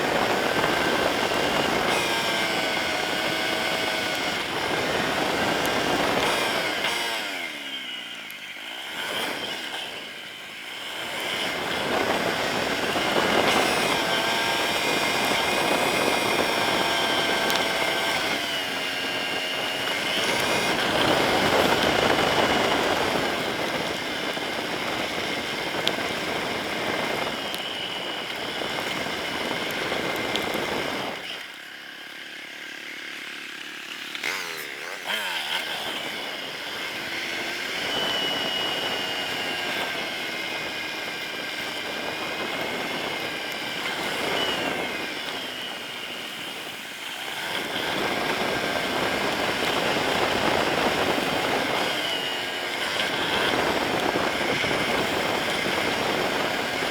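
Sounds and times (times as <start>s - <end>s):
wind noise: 0.0s - 7.4s, 11.0s - 31.3s, 35.1s - 46.8s, 47.4s - 56.9s
motorcycle engine revving: 0.0s - 56.9s.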